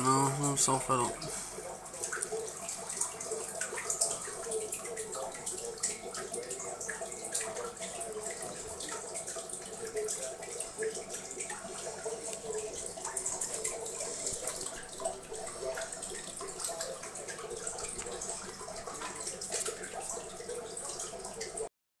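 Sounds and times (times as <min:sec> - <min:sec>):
aquarium water trickling and bubbling: 0:00.0 - 0:21.7
small water splashes: 0:00.0 - 0:21.7.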